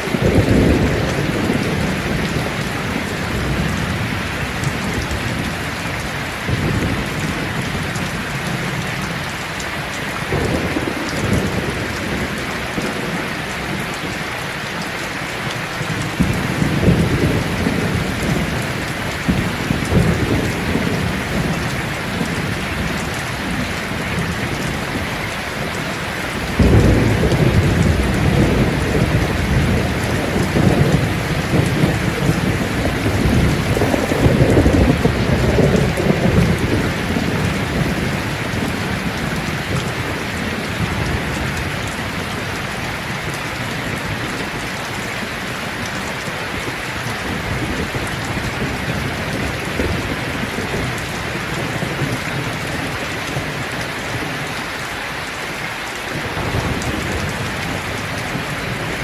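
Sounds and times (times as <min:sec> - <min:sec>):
thunder rumbling: 0:00.0 - 0:54.5, 0:56.1 - 0:59.0
rain falling on leaves: 0:00.0 - 0:59.0.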